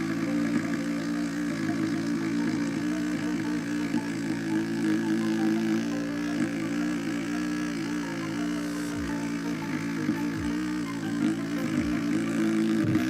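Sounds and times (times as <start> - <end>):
scroll saw motor running: 0.0 - 13.0.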